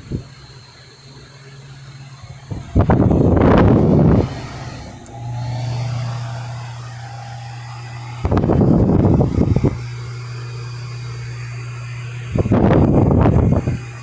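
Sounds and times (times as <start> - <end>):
electric fan motor hum: 0.0 - 14.0
airflow buffeting microphone: 1.8 - 14.0.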